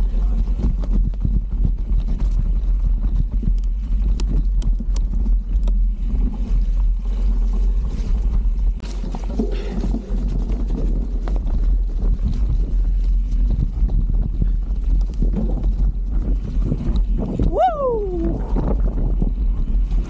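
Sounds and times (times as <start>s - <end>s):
bike rattling: 0.0s - 20.0s
wind rumble on microphone: 0.0s - 20.0s.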